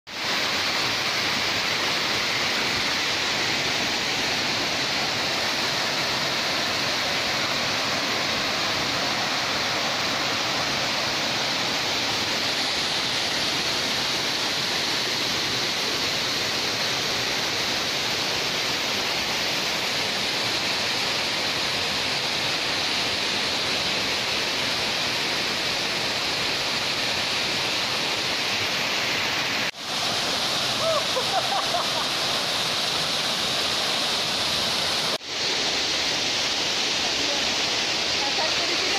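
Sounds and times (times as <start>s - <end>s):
waterfall pouring into a pool: 0.1s - 38.9s.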